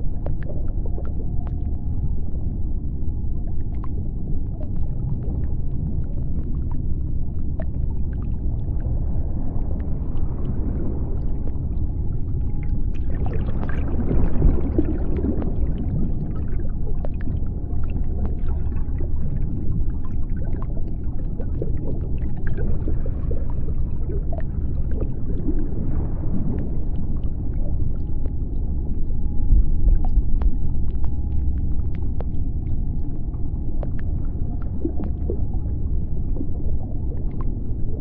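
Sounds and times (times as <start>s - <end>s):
faint hum: 0.0s - 38.0s
low underwater rumble: 0.0s - 38.0s.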